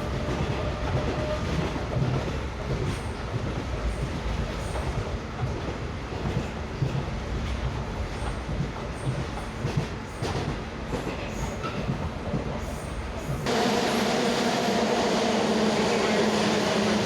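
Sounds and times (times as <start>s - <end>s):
metro train wheels rumbling on rail: 0.0s - 17.0s.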